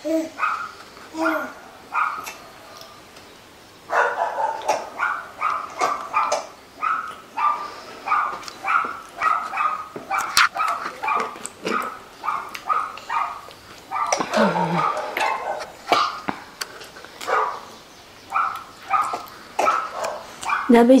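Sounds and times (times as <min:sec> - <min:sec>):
dog barking: 0:00.4 - 0:02.4, 0:03.9 - 0:16.2, 0:17.2 - 0:17.7, 0:18.3 - 0:20.8.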